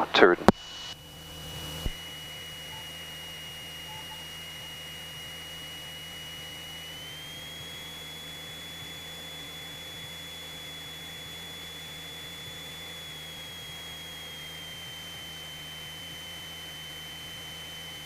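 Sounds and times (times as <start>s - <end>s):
aircraft engine hum: 0.0s - 18.0s
thin high whine: 0.4s - 18.0s.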